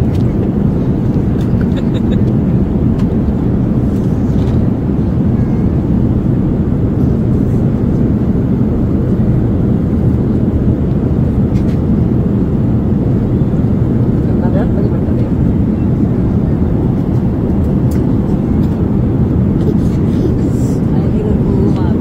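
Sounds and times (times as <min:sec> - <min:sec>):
jet airliner cabin noise: 0:00.0 - 0:22.0.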